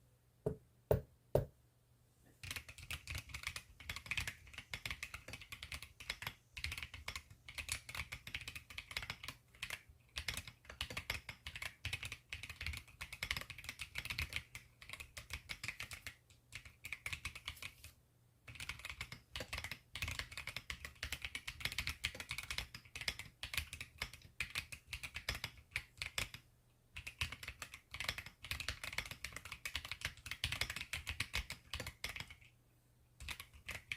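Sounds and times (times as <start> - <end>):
typing on mechanical keyboard: 2.4 - 17.9, 18.5 - 32.5, 33.2 - 33.9.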